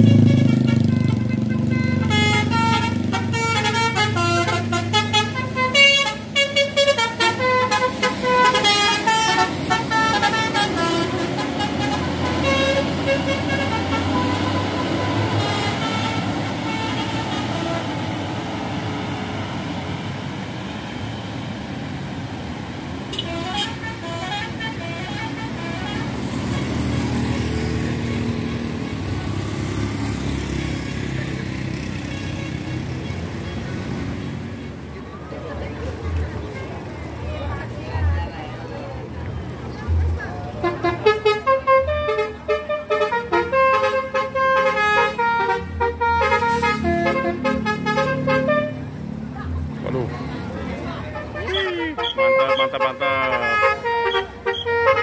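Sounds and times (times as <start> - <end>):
multi-tone bus horns tooting: 0.0 - 34.9, 39.8 - 50.1, 50.7 - 55.0
bus engine running: 0.0 - 55.0.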